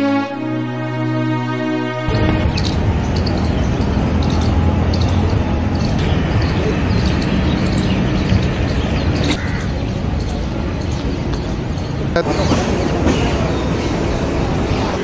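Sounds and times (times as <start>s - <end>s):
low rumble of traffic: 0.0s - 15.0s
birds chirping: 2.1s - 15.0s.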